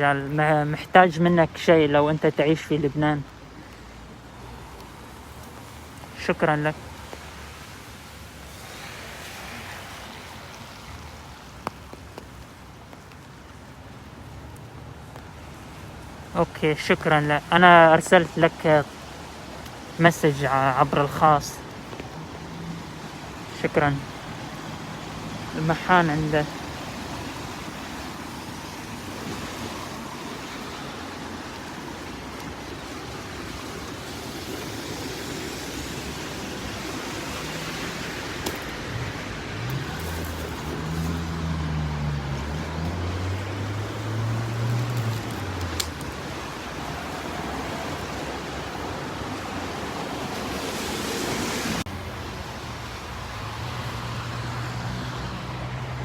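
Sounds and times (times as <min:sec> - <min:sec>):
steady rain falling: 0:00.0 - 0:56.0
steady rushing outdoor noise: 0:00.0 - 0:56.0.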